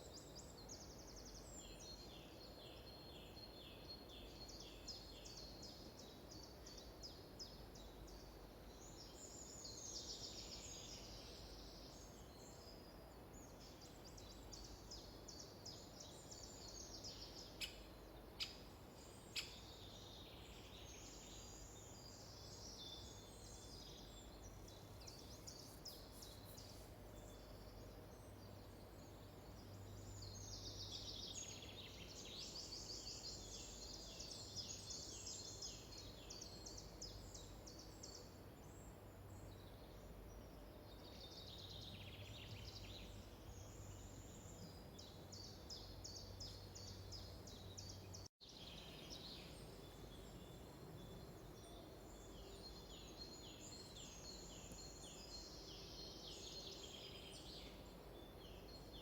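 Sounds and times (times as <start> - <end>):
small birds singing and chirping: 0.0 - 59.0.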